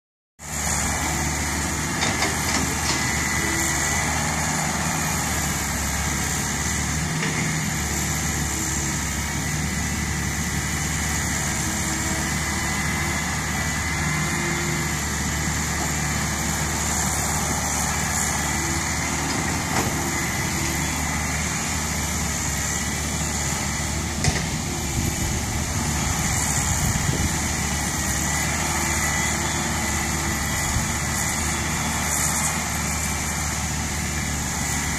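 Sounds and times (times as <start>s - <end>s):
excavator diesel engine under load: 0.4s - 34.9s.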